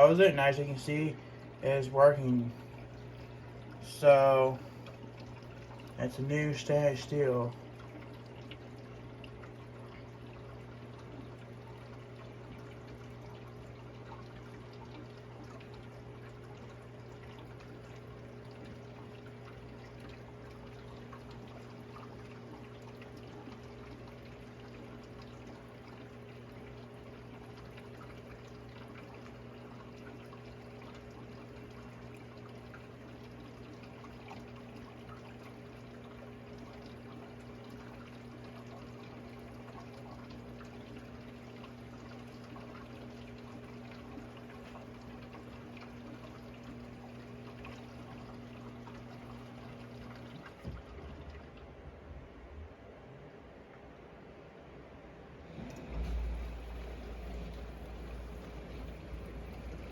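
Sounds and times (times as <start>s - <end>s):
water splashing inside dishwasher: 0.0s - 52.2s, 55.4s - 59.9s
dishwasher motor hum: 0.0s - 52.8s, 55.2s - 59.9s.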